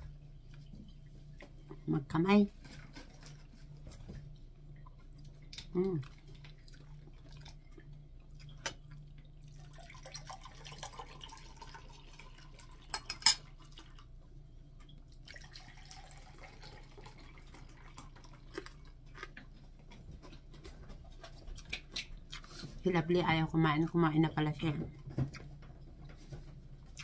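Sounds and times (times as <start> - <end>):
soft eating noises: 0.0 - 27.0.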